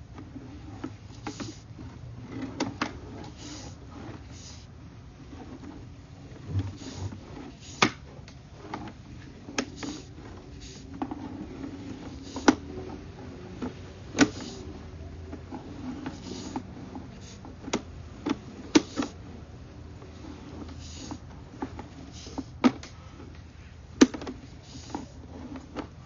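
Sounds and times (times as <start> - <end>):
low steady background noise: 0.0 - 26.0.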